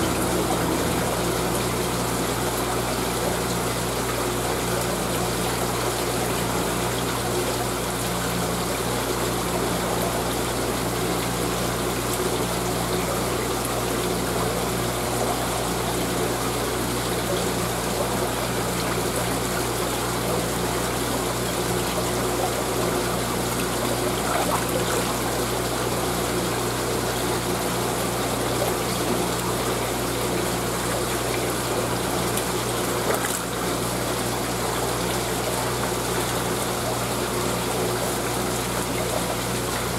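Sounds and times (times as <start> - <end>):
circulation pump hum: 0.0 - 39.9
water pouring and bubbling into tank: 0.0 - 39.9.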